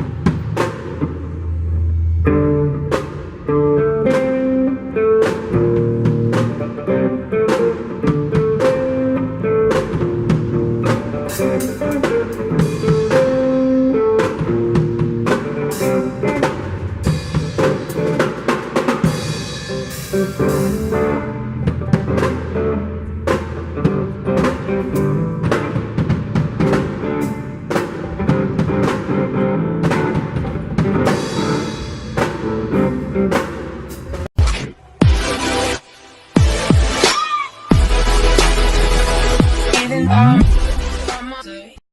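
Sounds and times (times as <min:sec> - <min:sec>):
drum-led music: 0:00.0 - 0:41.5.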